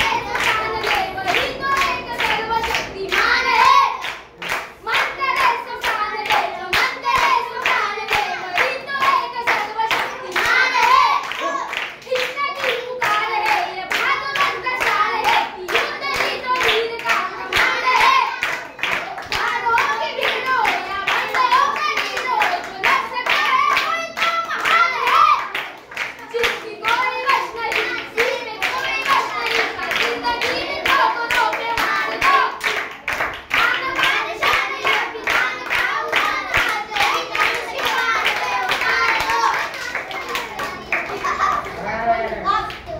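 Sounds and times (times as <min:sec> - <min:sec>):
boys singing: 0:00.0 - 0:04.1, 0:04.9 - 0:42.7
hand claps: 0:04.0 - 0:41.8.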